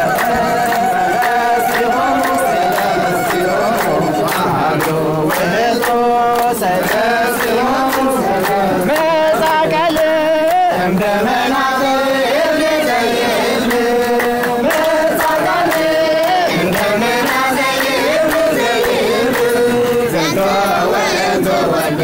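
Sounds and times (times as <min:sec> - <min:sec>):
voices chanting a melody: 0:00.0 - 0:22.0.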